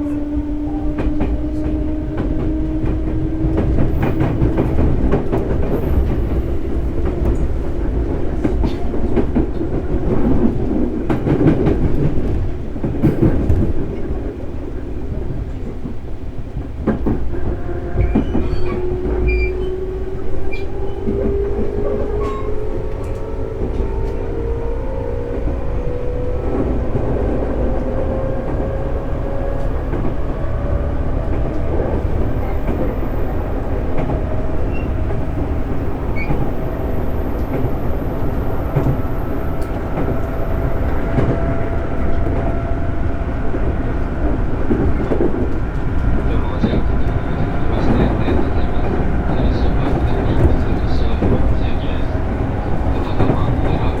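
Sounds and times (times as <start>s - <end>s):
rail-joint clicks: 0.0s - 14.5s, 15.2s - 24.4s, 25.0s - 54.0s
train rumbling on rails: 0.0s - 54.0s.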